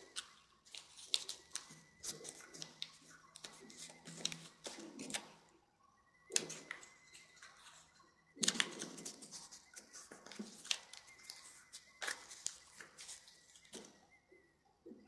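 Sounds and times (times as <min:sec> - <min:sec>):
paper rustling and crinkling: 0:00.0 - 0:05.3, 0:06.3 - 0:13.9.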